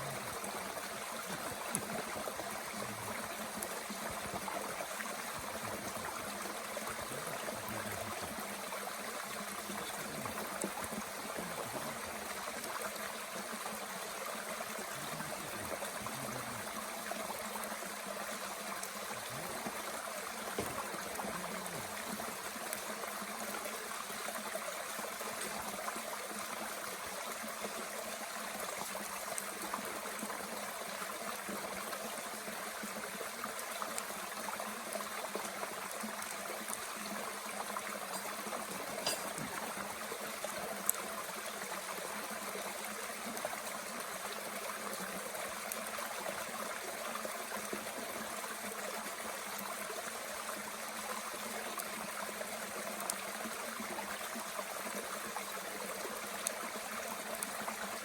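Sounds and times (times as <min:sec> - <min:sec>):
mountain stream flowing: 0:00.0 - 0:58.0.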